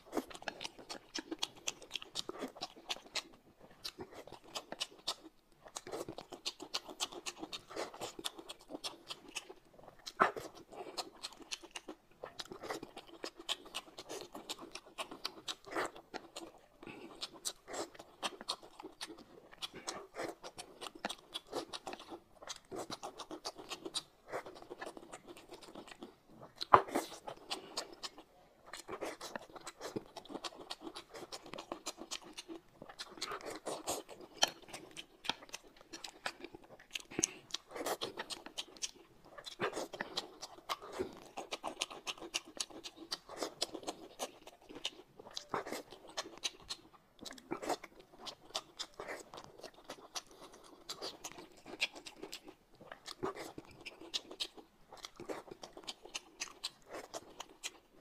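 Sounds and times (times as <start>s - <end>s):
man chewing wetly: 0.0s - 58.0s.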